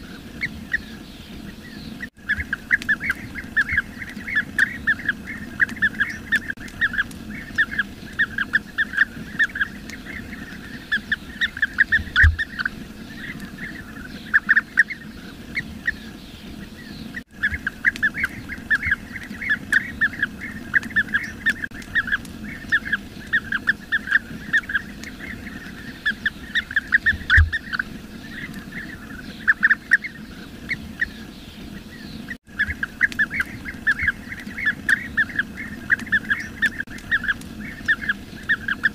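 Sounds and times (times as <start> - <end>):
bee-eaters chattering: 0.0 - 38.9.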